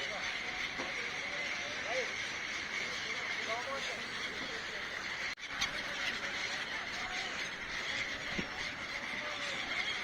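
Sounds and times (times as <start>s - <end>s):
birds calling: 0.0s - 10.0s.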